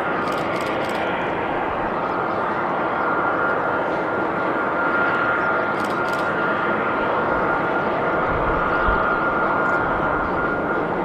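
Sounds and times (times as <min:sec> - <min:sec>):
airliner jet noise: 0:00.0 - 0:11.0.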